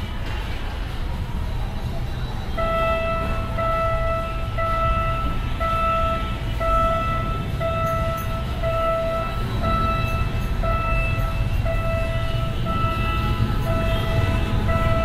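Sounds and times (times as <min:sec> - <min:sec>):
diesel railcar rumble: 0:00.0 - 0:15.0
high warning tone beeping: 0:02.1 - 0:15.0.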